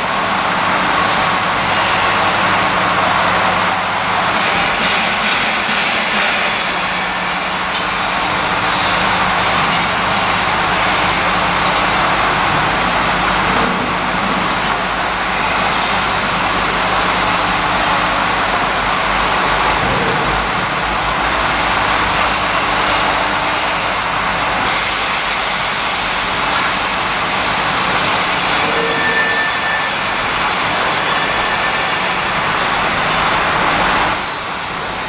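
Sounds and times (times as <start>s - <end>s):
milling machine running: 0.0s - 35.0s.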